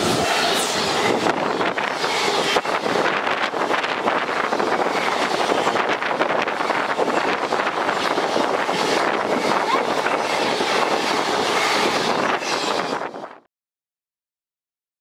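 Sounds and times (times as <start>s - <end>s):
train wheels rushing on rails: 0.0s - 13.5s.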